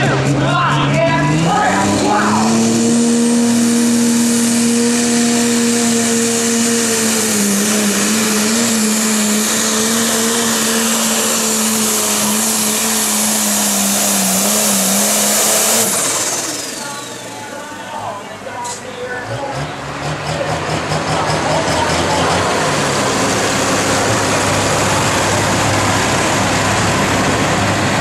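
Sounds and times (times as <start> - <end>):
diesel tractor engine at full throttle: 0.0 - 28.0
high turbo whine: 0.0 - 28.0.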